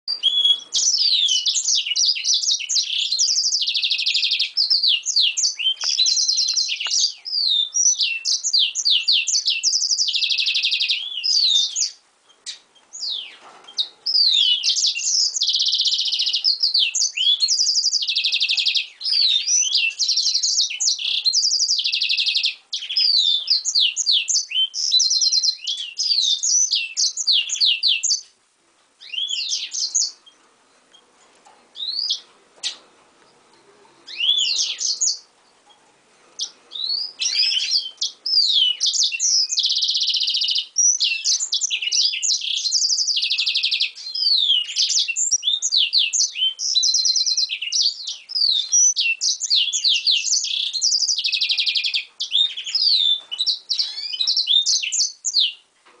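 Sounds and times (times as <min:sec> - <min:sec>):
finch singing: 0:00.1 - 0:28.4, 0:29.0 - 0:55.7.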